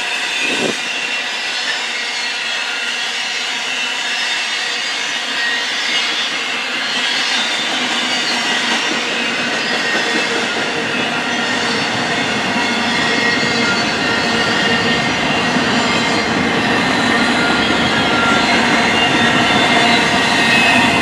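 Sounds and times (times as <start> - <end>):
freight train wheels rolling on rail: 0.0 - 21.0.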